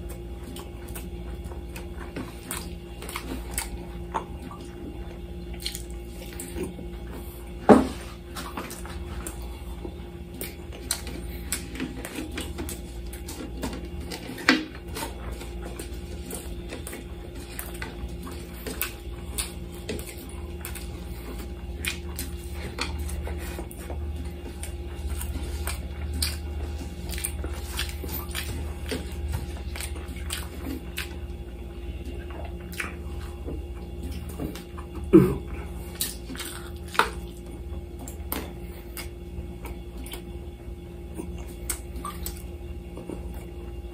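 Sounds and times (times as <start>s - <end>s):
chewing and lip-smacking: 0.0s - 43.9s
steady low hum: 0.0s - 43.9s.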